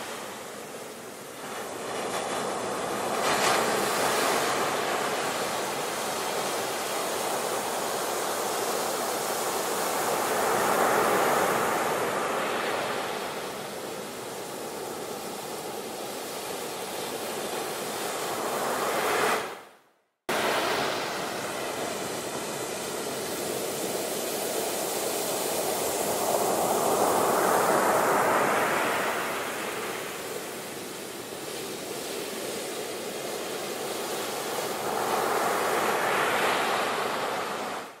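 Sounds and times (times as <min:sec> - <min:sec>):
waves breaking on shore: 0:00.0 - 0:19.7, 0:20.3 - 0:38.0.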